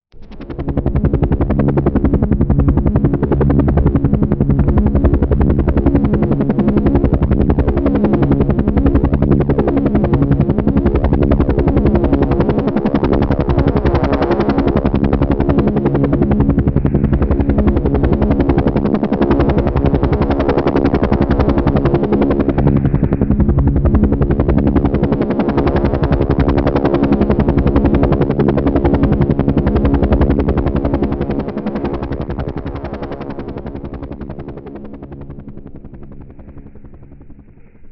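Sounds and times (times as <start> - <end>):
helicopter engine drone: 0.2 - 37.9
helicopter rotor beating: 0.2 - 37.9.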